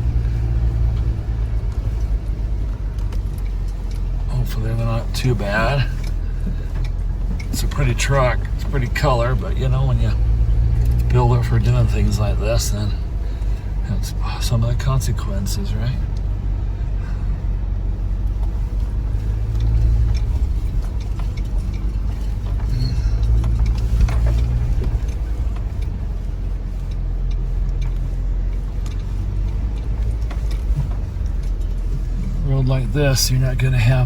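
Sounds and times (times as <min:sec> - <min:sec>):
pickup engine rumble: 0:00.0 - 0:34.0
tyre and road noise: 0:00.0 - 0:34.0.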